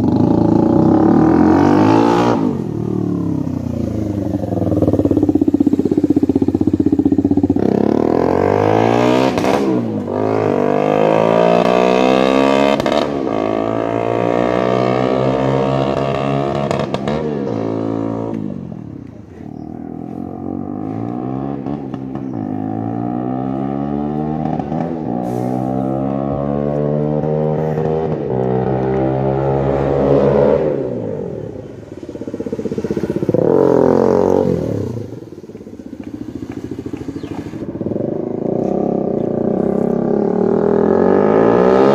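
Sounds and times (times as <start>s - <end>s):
unmuffled motorcycle engine revving: 0.0s - 41.9s.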